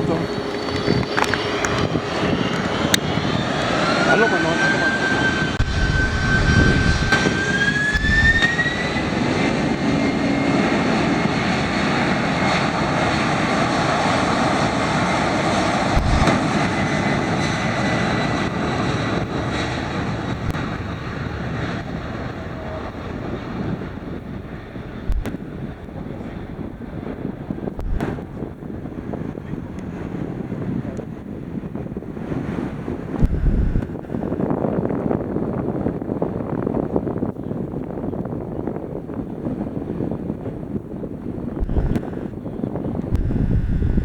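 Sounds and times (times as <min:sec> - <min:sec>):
jet engines roaring with whine: 0:00.0 - 0:44.0.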